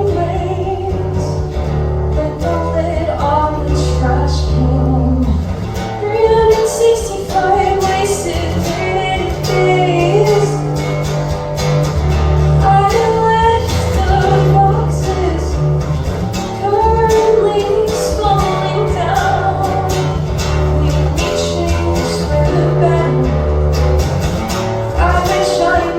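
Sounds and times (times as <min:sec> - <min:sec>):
instrumental accompaniment: 0:00.0 - 0:25.9
low bass notes: 0:00.0 - 0:25.9
person singing live: 0:00.0 - 0:25.9.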